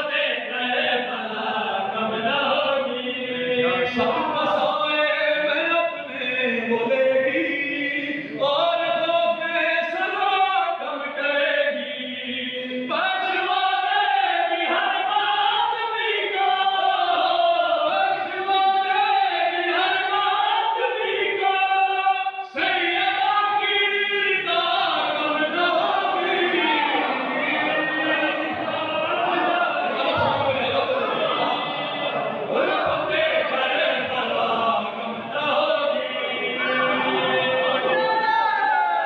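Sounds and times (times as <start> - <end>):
men chanting into microphone: 0.0 - 39.0.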